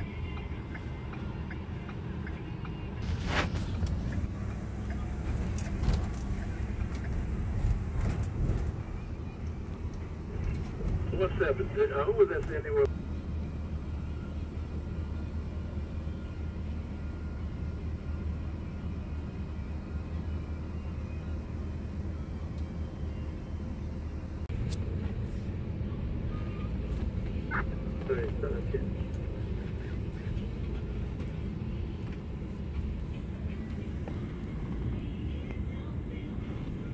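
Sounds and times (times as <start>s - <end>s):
van engine humming: 0.0s - 36.9s.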